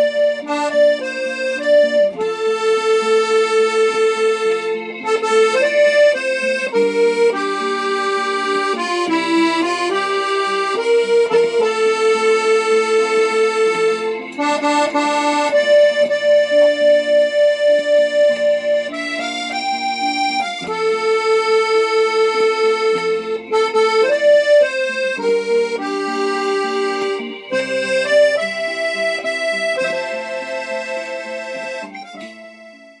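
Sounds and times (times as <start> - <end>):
instrumental background music: 0.0 - 33.0.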